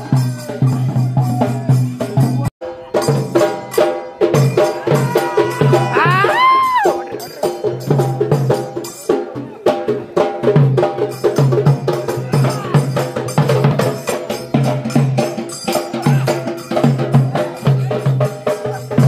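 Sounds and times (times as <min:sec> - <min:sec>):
large drums beating fast rhythm: 0:00.0 - 0:19.0.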